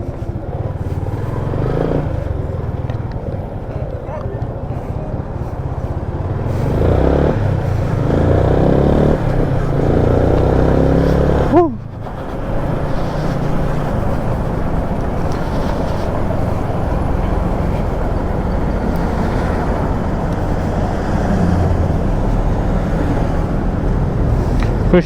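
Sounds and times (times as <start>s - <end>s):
motorcycle engine and road noise: 0.0s - 25.0s.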